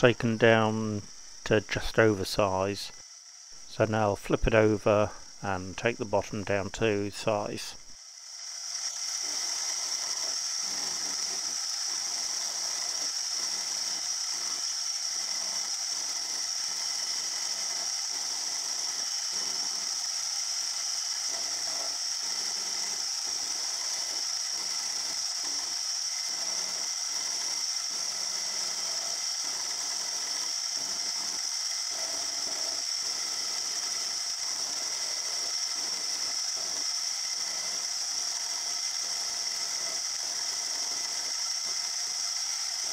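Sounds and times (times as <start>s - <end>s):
milling machine whine: 0.0s - 42.9s
end mill rasping cut: 3.6s - 42.9s.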